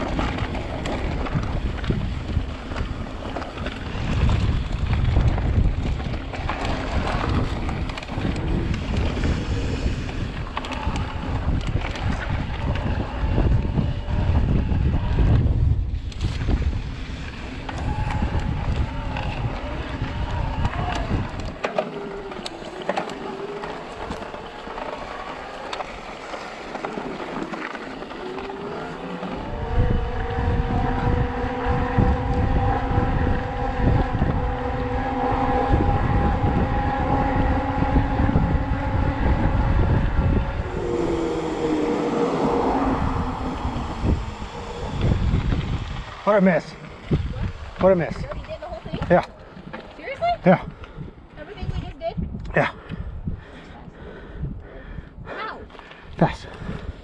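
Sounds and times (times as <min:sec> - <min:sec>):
wind buffeting microphone: 0:00.0 - 0:57.0
electric bike motor whine: 0:00.1 - 0:26.7, 0:27.4 - 0:47.5.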